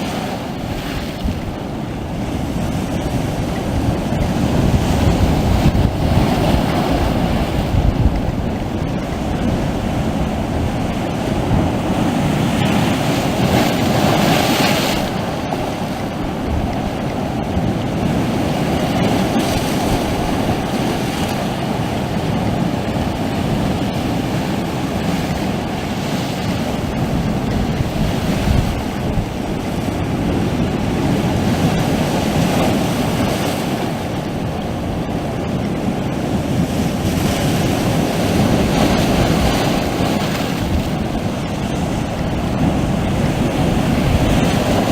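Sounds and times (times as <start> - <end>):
sea waves washing onto shore: 0.0 - 44.9.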